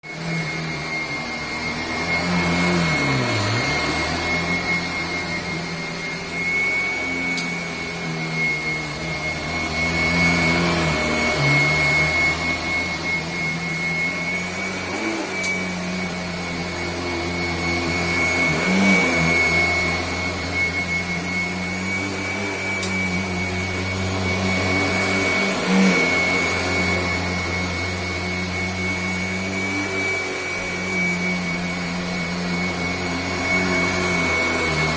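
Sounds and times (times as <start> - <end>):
vacuum cleaner whine and hum: 0.0 - 34.9.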